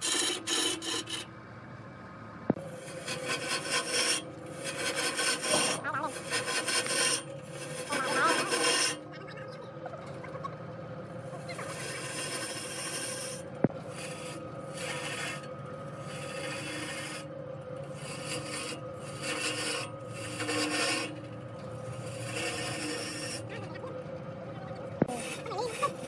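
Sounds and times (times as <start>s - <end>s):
lathe humming: 0.0s - 1.3s, 2.5s - 26.0s
lathe tool scraping wood: 0.0s - 1.3s, 2.5s - 9.1s, 11.2s - 23.8s, 25.0s - 26.0s.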